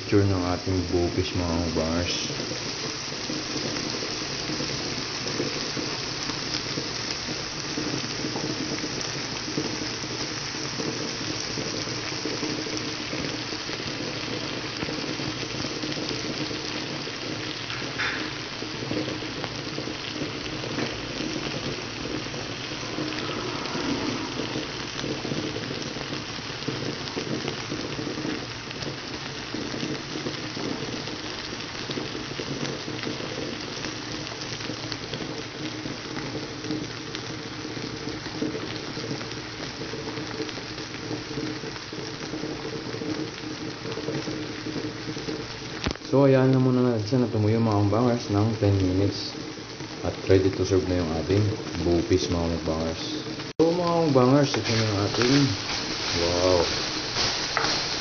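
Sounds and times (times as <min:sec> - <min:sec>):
sauce bubbling and sizzling in pan: 0:00.0 - 0:58.0.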